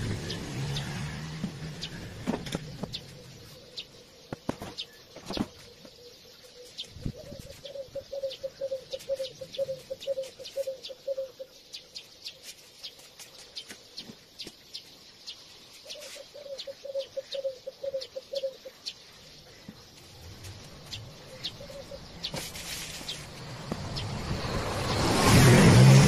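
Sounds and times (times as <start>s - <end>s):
rapid repeated bird calls: 0.0s - 25.3s
birds chirping: 0.0s - 25.6s.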